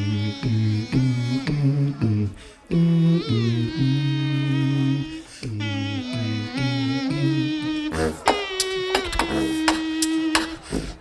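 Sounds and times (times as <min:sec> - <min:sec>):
beatboxing vocal bass: 0:00.0 - 0:11.0
high voice gliding in pitch: 0:00.0 - 0:11.0.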